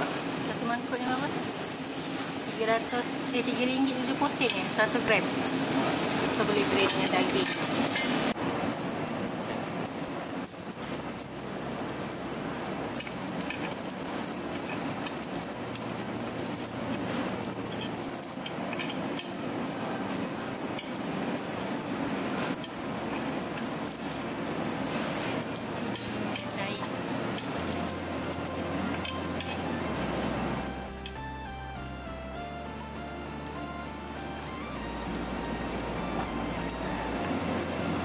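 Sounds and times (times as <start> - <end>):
cheese and meat sizzling on grill: 0.0 - 38.0.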